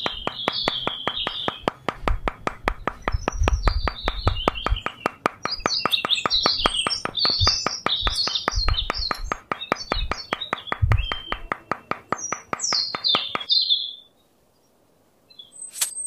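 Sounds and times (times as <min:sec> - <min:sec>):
rapid ticking: 0:00.0 - 0:13.5
wooden posts knocked into sand: 0:00.0 - 0:13.5
birds chirping: 0:00.0 - 0:16.0.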